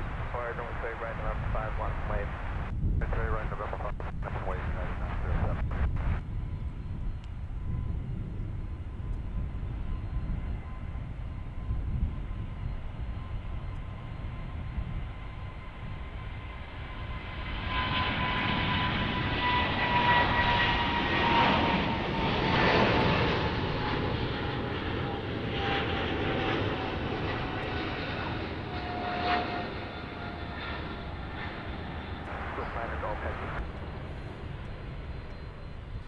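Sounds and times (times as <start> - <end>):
jet engines whining: 0.0 - 36.0.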